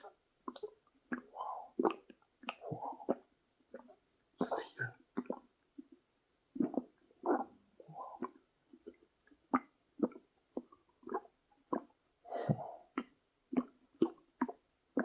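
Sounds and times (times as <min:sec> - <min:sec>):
stomach gurgling: 0:00.0 - 0:15.0.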